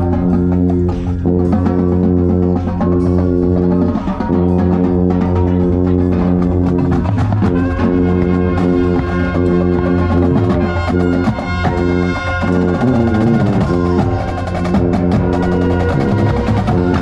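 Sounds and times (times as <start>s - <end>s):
brass chords: 0.0s - 17.0s.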